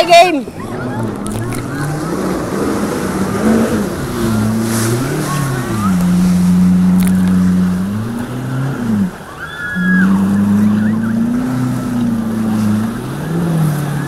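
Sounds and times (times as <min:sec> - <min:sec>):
jet ski engine running: 0:00.0 - 0:14.0
rush of boat wake: 0:00.0 - 0:14.0.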